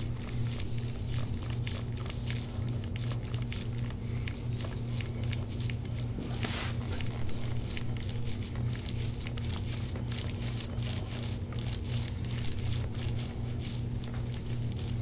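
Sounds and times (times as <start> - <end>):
small crackles: 0.0 - 15.0
steady low hum: 0.0 - 15.0.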